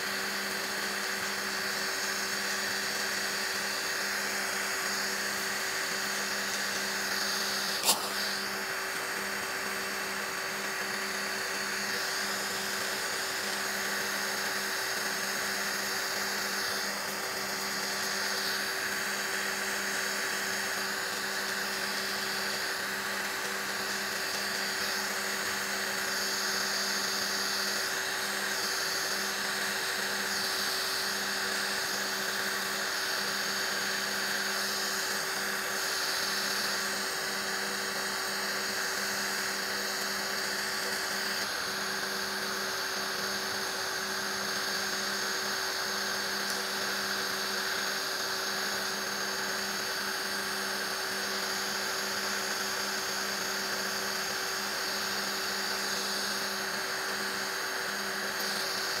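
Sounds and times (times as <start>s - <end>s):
drill bit grinding nails: 0.0s - 59.0s
electric nail drill whining: 0.0s - 59.0s.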